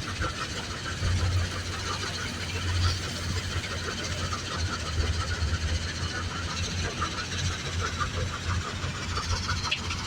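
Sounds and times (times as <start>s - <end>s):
diesel engine drone: 0.0s - 10.0s.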